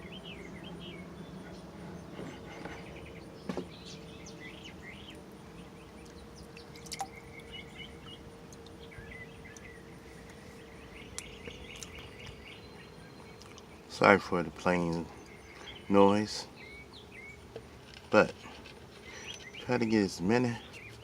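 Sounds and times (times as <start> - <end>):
airplane droning overhead: 0.0 - 21.0
small birds chirping: 0.0 - 21.0.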